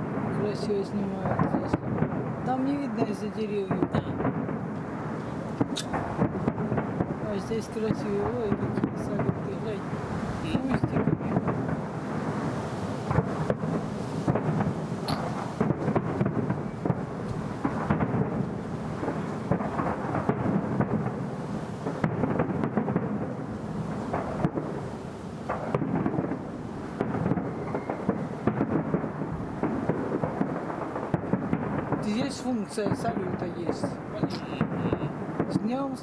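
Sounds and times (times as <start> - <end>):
fireworks booming: 0.0 - 36.0.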